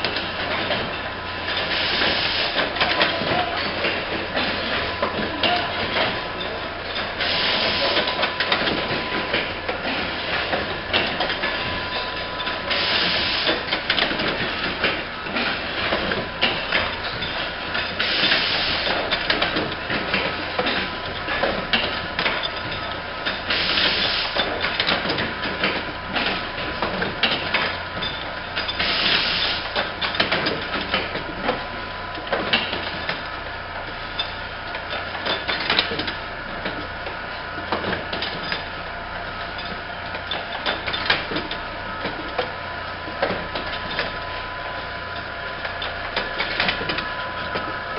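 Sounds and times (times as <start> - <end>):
machine clicking and clattering: 0.0 - 47.9.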